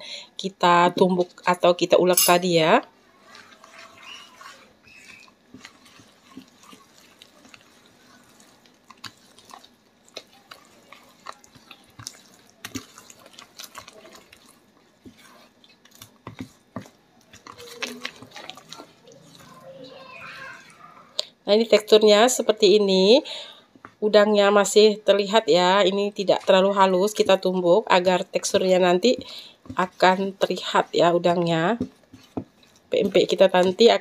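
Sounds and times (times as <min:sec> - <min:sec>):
wet batter squelching: 0:00.6 - 0:34.0.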